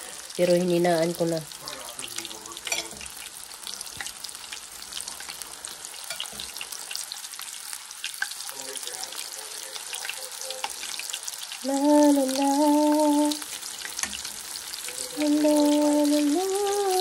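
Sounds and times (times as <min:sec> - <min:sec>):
dumplings sizzling in hot oil: 0:00.0 - 0:17.0.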